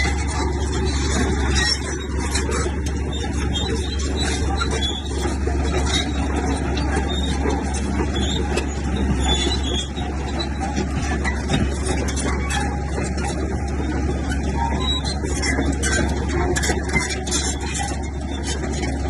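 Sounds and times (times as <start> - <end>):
heavy diesel machine engine drone: 0.0 - 19.0.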